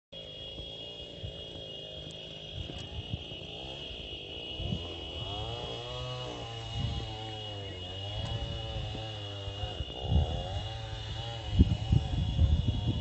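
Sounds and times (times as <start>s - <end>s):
engine running: 0.2s - 13.0s
high-pitched buzz: 0.2s - 13.0s.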